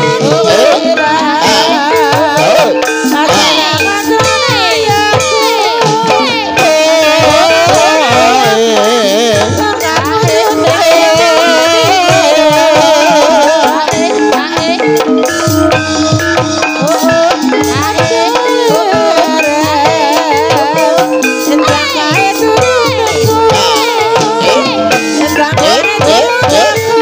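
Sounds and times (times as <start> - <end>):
drum strokes: 0.0 - 27.0
high wavering melody: 0.0 - 27.0
metallophones ringing: 0.0 - 27.0.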